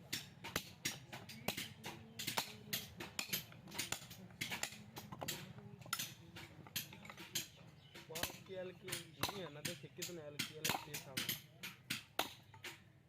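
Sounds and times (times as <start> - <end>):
tools tapping on metal: 0.0 - 12.9.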